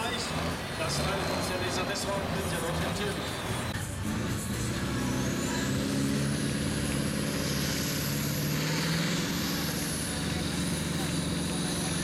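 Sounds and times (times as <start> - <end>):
tractor diesel engine at full load: 0.0 - 12.0.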